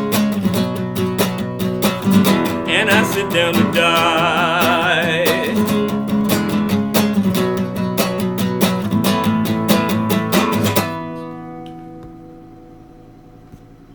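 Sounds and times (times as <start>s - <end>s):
acoustic guitar strumming: 0.0s - 13.5s.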